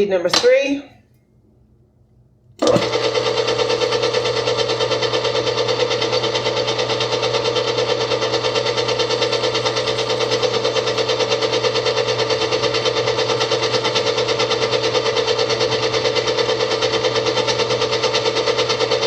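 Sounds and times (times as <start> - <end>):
stand mixer humming and rattling: 2.6 - 19.0.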